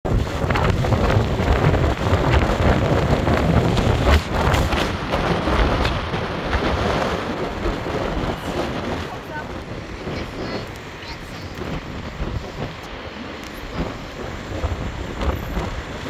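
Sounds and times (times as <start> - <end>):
car road noise rumble: 0.0 - 16.0
wind buffeting microphone: 0.0 - 16.0.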